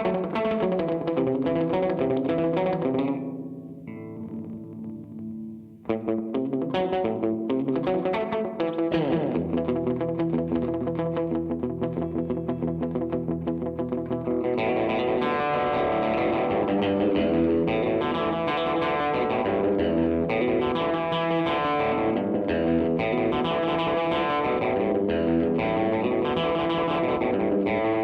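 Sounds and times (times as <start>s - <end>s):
electric guitar with reverb: 0.0s - 28.0s.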